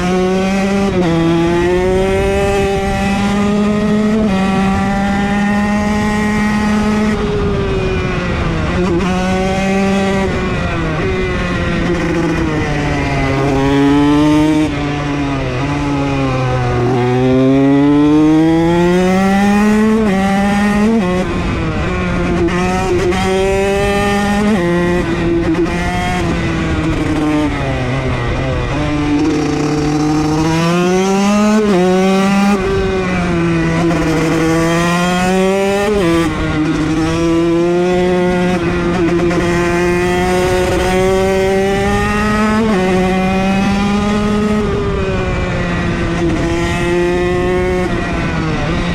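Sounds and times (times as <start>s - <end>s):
dirt bike engine revving: 0.0s - 7.2s, 7.9s - 48.8s.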